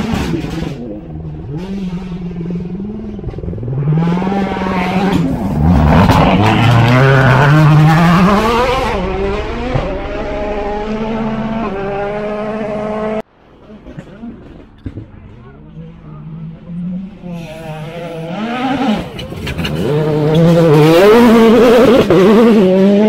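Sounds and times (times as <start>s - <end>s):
rally car engine revving past: 0.0s - 13.2s, 16.2s - 23.0s.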